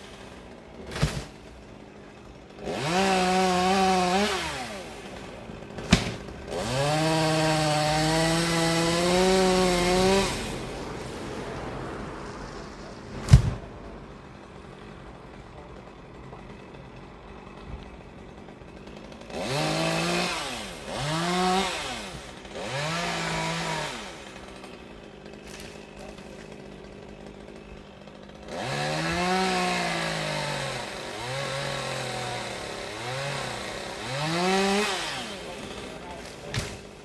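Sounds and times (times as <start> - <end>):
chainsaw revving: 0.0 - 37.0.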